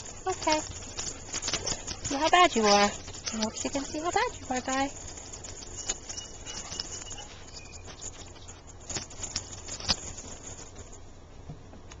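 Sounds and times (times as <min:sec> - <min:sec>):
paws scuffing on wood-chip mulch: 0:00.0 - 0:11.0.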